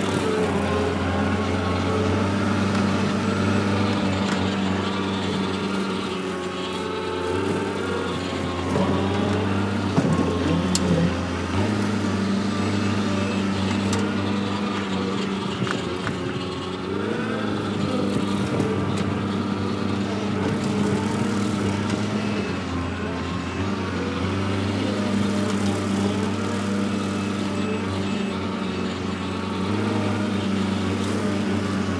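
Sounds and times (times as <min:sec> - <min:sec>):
skid steer engine running: 0:00.0 - 0:31.9.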